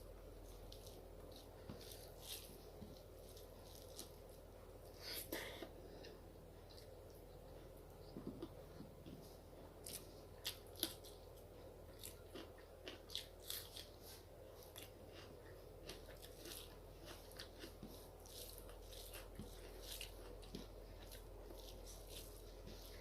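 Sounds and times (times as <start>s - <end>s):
person chewing food: 0.4s - 23.0s.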